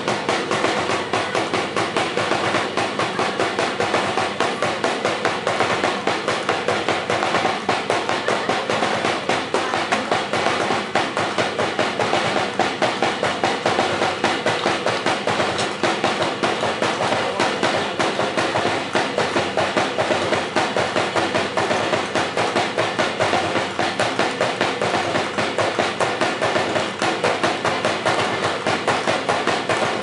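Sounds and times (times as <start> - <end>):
drum-driven dance music: 0.0 - 30.0.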